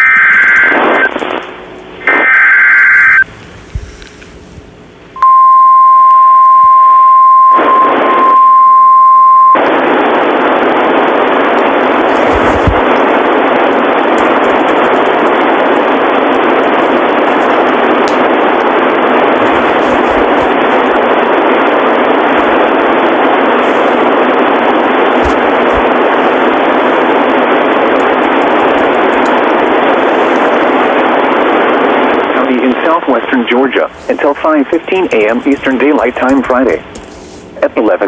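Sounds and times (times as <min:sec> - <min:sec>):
radio static hiss: 0:00.0 - 0:05.2, 0:09.4 - 0:38.0.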